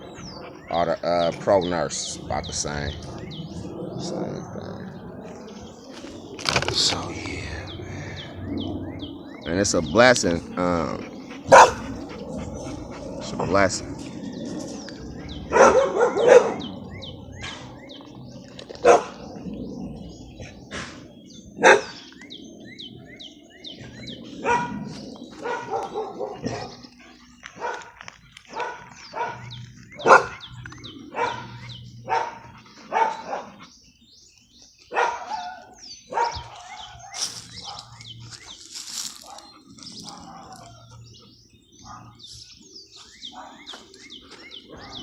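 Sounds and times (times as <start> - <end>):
dogs barking: 0.0 - 34.0, 34.8 - 45.0.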